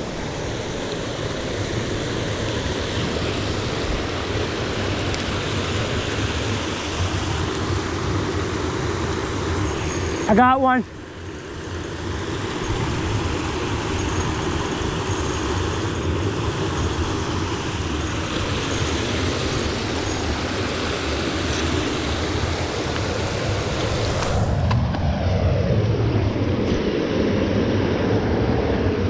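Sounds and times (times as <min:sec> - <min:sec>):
creek water rushing: 0:00.0 - 0:24.6.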